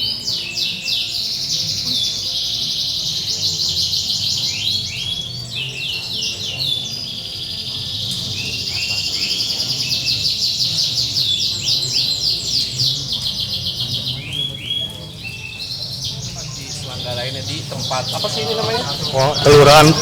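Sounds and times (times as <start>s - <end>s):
canaries singing trills: 0.0s - 20.0s.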